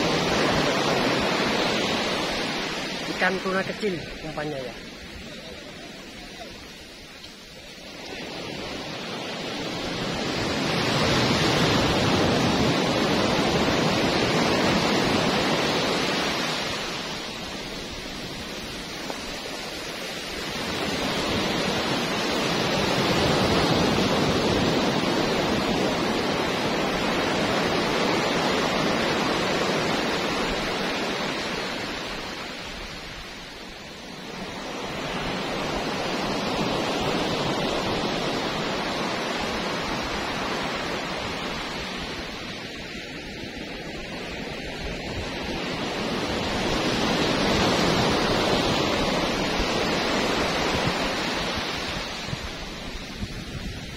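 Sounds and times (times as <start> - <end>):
surf breaking on sand beach: 0.0 - 53.9.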